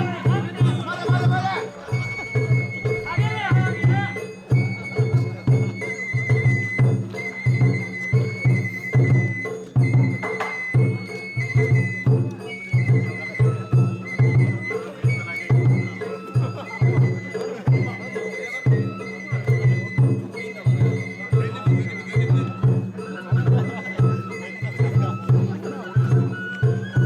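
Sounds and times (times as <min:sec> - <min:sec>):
bamboo flute melody: 0:00.0 - 0:27.0
taiko drum beats: 0:00.0 - 0:27.0.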